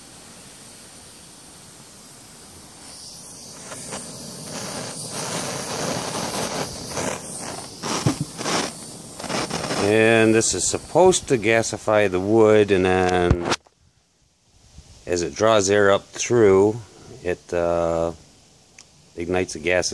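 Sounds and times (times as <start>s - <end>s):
fire crackling and hissing: 0.0s - 19.9s.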